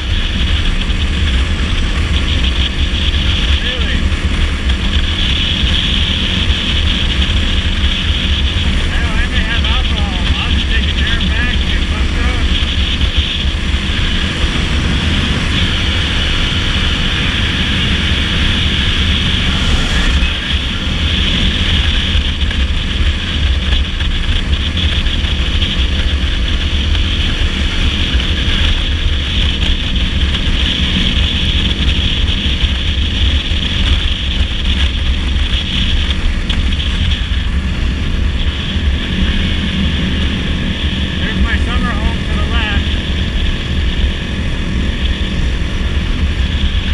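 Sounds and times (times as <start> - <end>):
dirt bike engine running: 0.0 - 46.9
wind rushing on microphone: 0.0 - 46.9.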